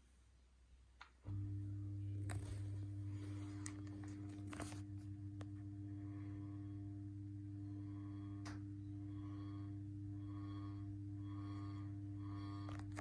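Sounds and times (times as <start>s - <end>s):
light fitting humming: 1.3s - 13.0s.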